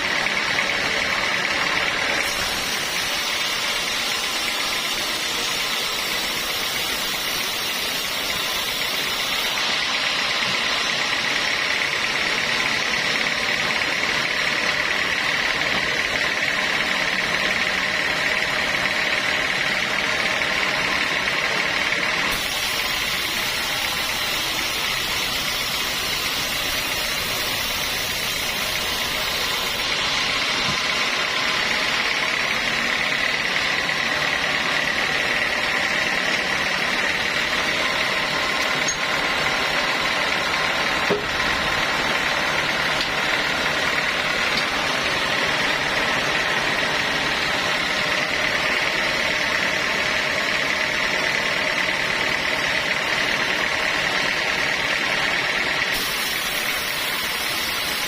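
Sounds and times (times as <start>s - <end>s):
rushing machine noise: 0.0s - 58.0s
sawmill saw whining: 0.0s - 58.0s.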